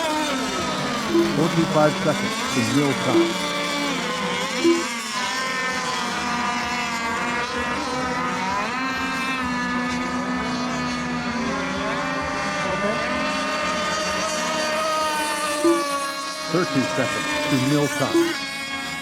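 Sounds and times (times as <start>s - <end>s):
model boat motors whining: 0.0s - 19.0s.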